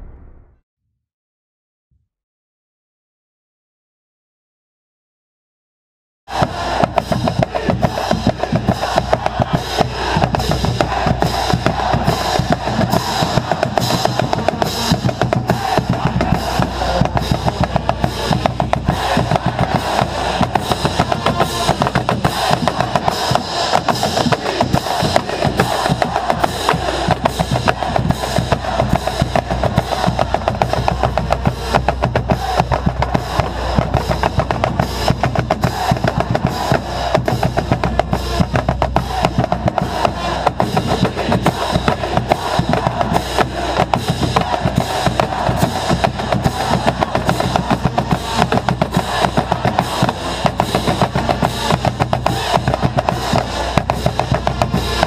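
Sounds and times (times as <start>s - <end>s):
bass drum close to microphone: 6.3s - 55.0s.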